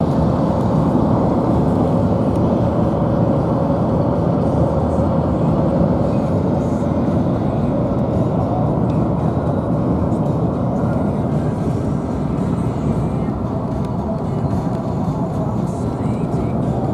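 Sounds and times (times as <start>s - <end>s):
vehicle engine and tyres rumbling: 0.0s - 16.9s.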